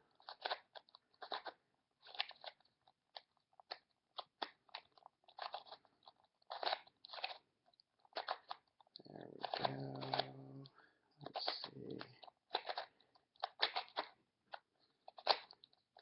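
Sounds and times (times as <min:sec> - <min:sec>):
puzzle cube clicking turns: 0:00.0 - 0:16.0.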